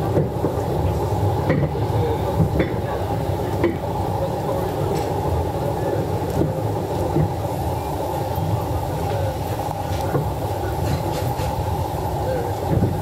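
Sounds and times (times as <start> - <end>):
train carriage rumbling on rails: 0.0 - 13.0.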